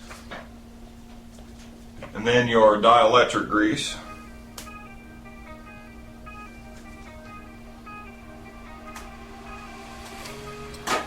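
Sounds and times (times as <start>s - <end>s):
low steady hum: 0.0s - 11.0s
background music melody: 2.1s - 11.0s.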